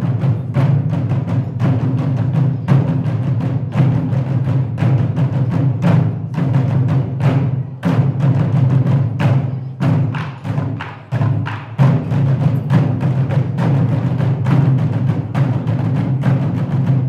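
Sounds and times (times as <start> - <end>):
barrel drums beaten with sticks: 0.0 - 17.0.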